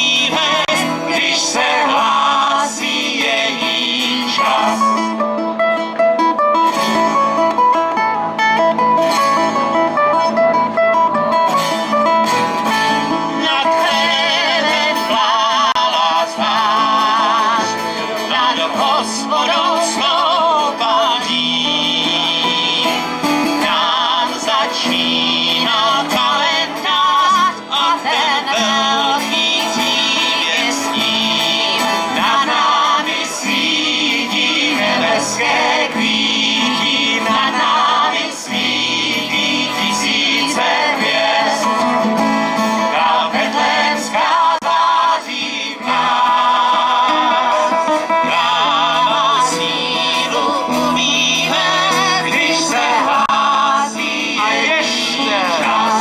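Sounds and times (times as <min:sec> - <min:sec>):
people singing: 0:00.0 - 0:05.2, 0:12.6 - 0:56.0
double bass: 0:00.0 - 0:45.1, 0:45.8 - 0:56.0
strummed acoustic guitars: 0:00.0 - 0:56.0.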